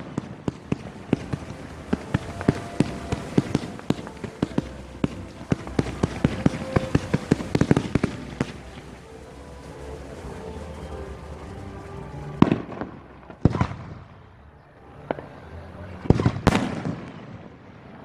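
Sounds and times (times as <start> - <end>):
fireworks banging and popping: 0.0 - 14.0, 16.0 - 17.5.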